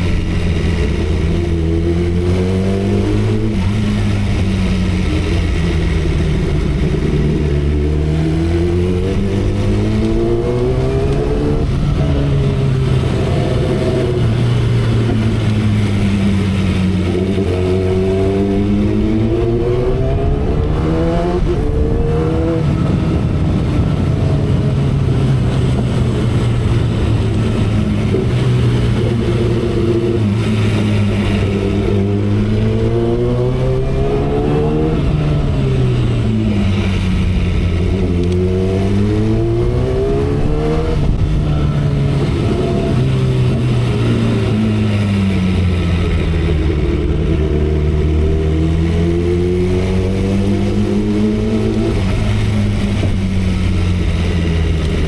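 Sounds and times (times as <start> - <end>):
motorcycle engine revving: 0.0 - 55.0
road noise: 0.0 - 55.0
wind noise: 0.0 - 55.0.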